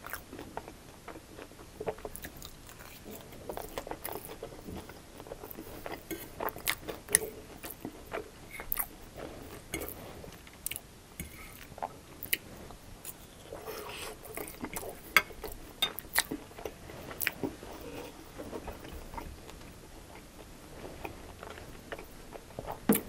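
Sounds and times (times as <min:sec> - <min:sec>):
wet chewing mouth sounds: 0:00.0 - 0:23.0.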